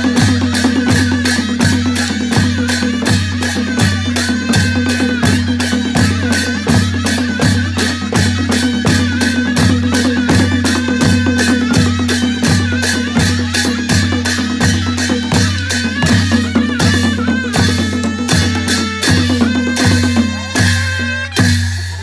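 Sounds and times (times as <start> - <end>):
cymbals clashing: 0.0 - 22.0
shehnai melody: 0.0 - 22.0.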